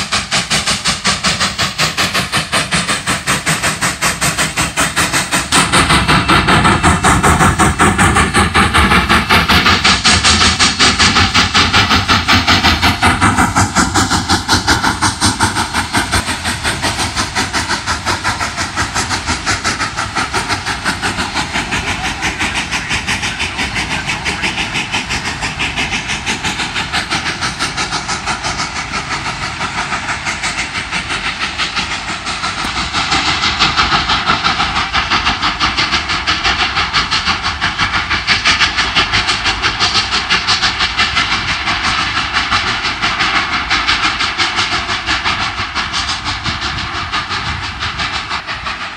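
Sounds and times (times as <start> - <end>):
steam hissing: 0.0 - 48.9
steam locomotive exhaust chuffs: 0.0 - 48.9.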